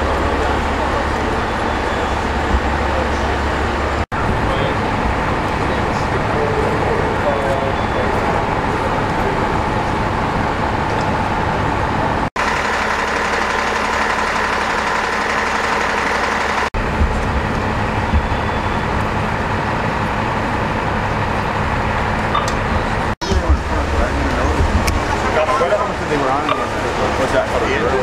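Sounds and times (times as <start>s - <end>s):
fire trucks idling: 0.0s - 28.0s.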